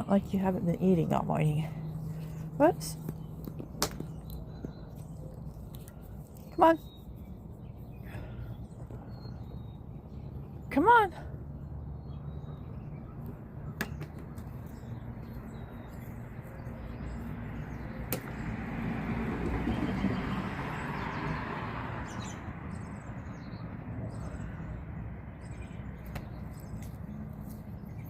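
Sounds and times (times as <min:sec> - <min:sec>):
low outdoor rush: 0:00.0 - 0:28.0.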